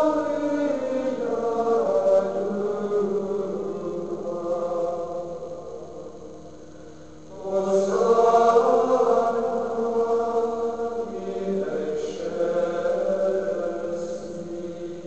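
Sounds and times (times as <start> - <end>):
men singing chant: 0.0 - 5.2, 7.3 - 15.0.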